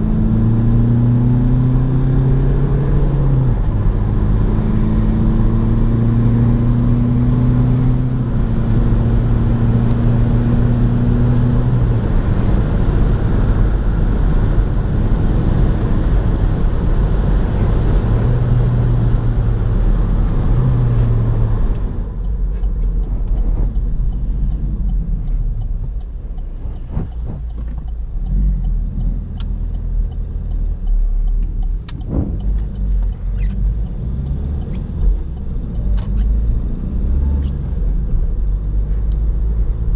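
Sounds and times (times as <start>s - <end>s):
diesel engine drone: 0.0s - 39.9s
road and wind noise: 0.0s - 39.9s.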